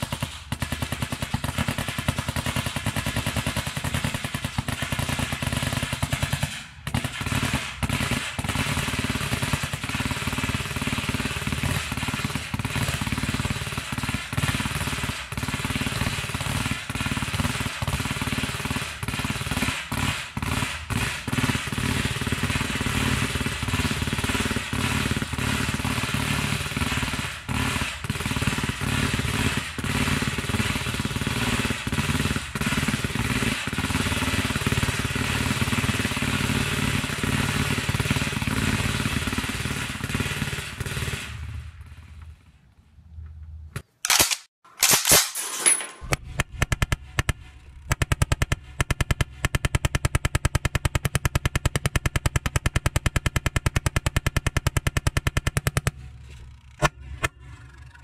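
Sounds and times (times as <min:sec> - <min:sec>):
pellet machine gun firing: 0:00.0 - 0:41.9, 0:44.0 - 0:56.1
loud steady rattling: 0:00.0 - 0:42.4, 0:45.3 - 0:58.0.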